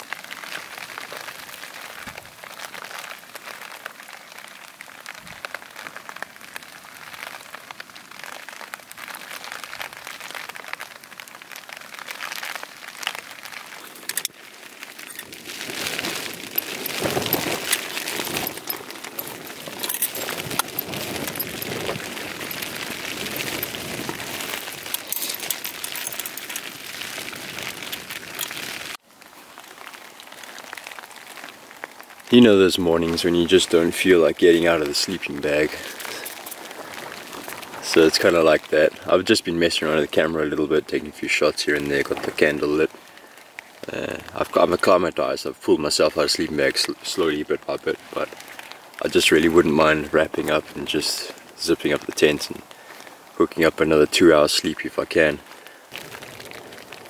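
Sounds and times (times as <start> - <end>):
rain pattering on tent: 0.0 - 57.0.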